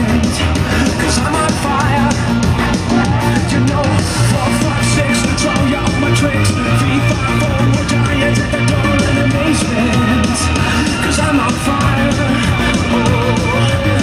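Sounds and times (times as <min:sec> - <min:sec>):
rock dance music with singing: 0:00.0 - 0:14.0.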